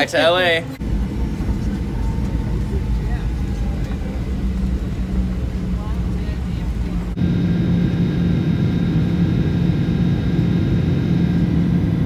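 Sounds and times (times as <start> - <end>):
airliner cabin drone: 0.0 - 12.0
faint high whine: 0.8 - 12.0.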